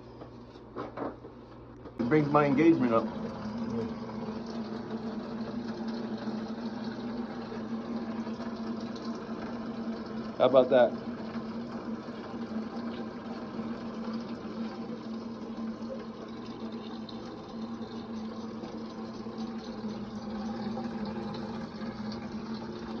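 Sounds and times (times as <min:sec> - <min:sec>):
water running: 0:01.8 - 0:23.0.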